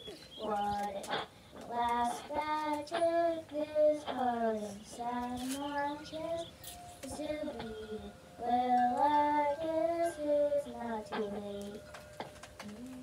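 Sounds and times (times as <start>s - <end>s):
children singing: 0.4s - 12.0s.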